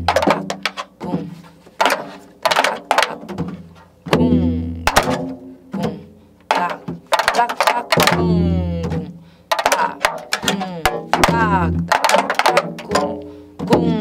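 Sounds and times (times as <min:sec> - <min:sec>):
woman singing: 0:00.2 - 0:01.4, 0:02.5 - 0:03.4, 0:04.1 - 0:05.0, 0:05.7 - 0:14.0.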